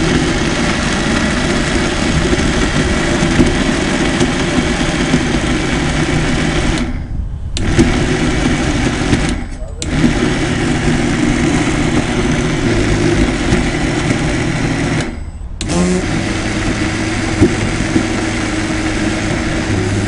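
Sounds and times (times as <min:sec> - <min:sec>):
electric mixer grinder running: 0:00.0 - 0:07.0, 0:07.6 - 0:20.0.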